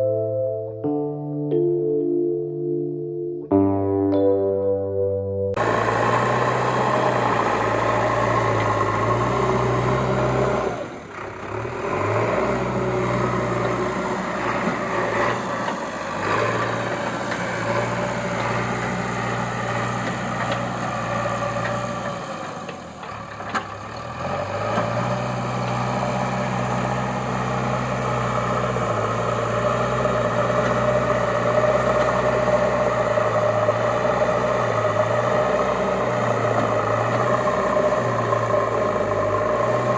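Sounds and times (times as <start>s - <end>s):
engine humming: 5.5s - 39.9s.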